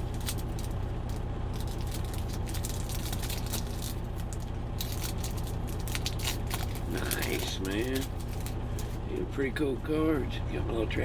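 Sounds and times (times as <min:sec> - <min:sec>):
card pack wrapper crinkling: 0:00.0 - 0:09.0
steady low rumble: 0:00.0 - 0:11.0.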